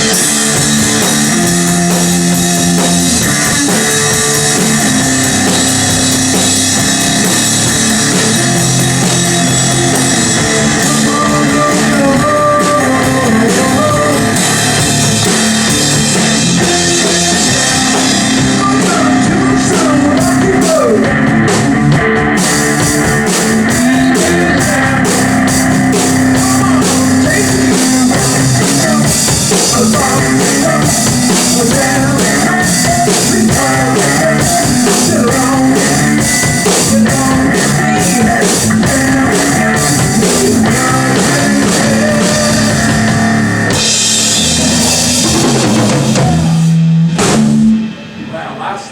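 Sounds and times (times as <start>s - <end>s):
loud rock band playing: 0.0s - 48.9s.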